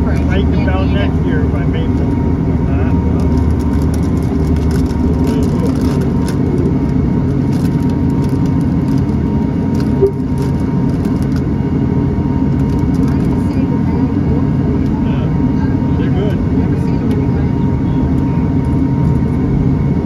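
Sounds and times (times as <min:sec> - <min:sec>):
turboprop engine drone in cabin: 0:00.0 - 0:20.0.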